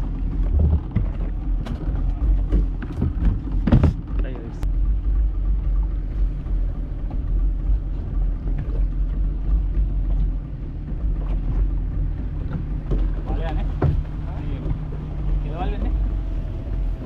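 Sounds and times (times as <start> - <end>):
boat engine humming: 0.0 - 17.0
water noise: 0.0 - 17.0
wind: 0.0 - 17.0.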